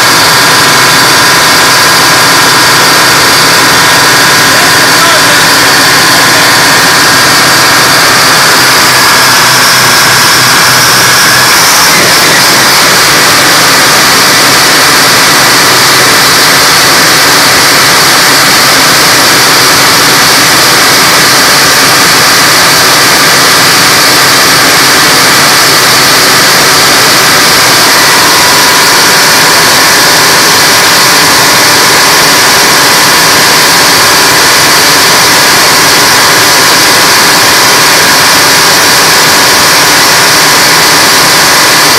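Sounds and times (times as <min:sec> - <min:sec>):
diesel engine running loud: 0:00.0 - 0:41.9.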